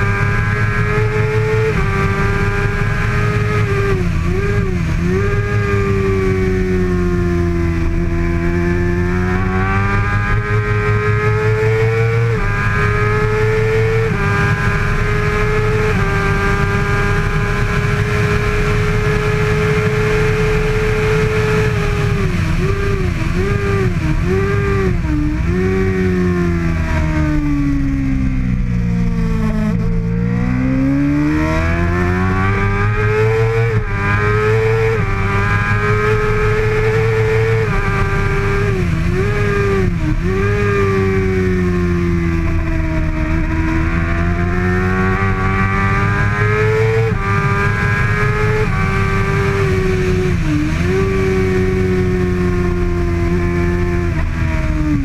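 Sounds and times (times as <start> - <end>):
motorcycle racing engine revving: 0.0 - 55.0.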